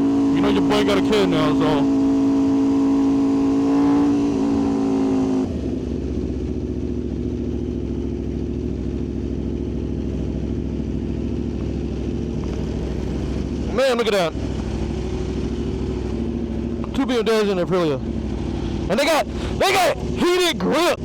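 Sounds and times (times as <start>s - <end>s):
motorcycle engine running and idling: 0.0s - 3.6s, 4.7s - 21.0s.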